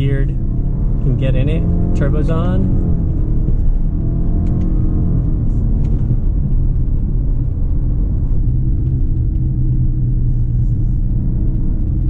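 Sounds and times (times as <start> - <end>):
car engine running: 0.0 - 12.0
low road rumble: 0.0 - 12.0.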